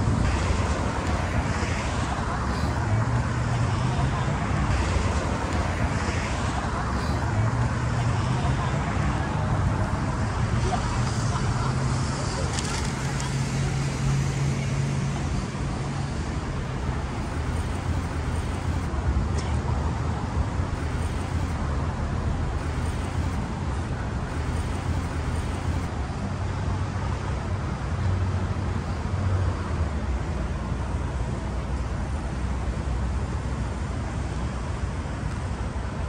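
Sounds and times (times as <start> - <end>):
city street traffic: 0.0 - 36.0.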